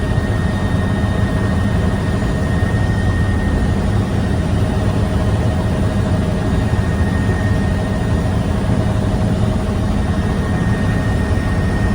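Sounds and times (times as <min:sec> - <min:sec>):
helicopter engine and rotor drone: 0:00.0 - 0:11.9.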